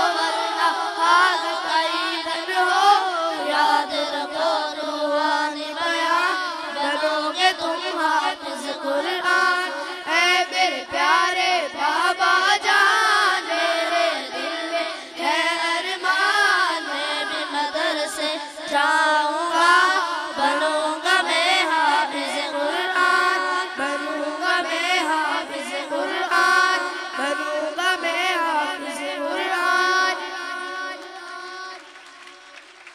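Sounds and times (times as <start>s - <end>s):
boys singing into microphones: 0.0s - 32.5s.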